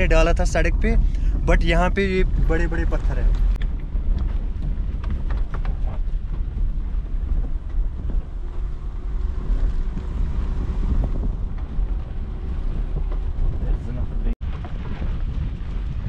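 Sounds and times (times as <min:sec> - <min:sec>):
car rumbling over stony track: 0:00.0 - 0:16.0
wind on microphone: 0:00.0 - 0:16.0.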